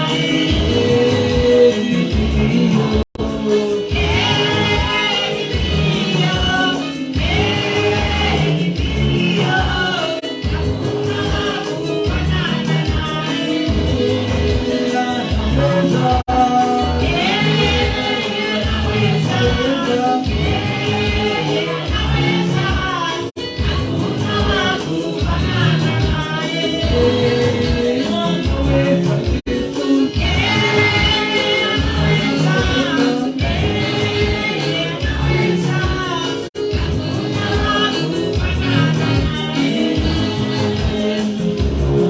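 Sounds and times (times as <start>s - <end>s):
gospel singing with band: 0.0s - 42.0s.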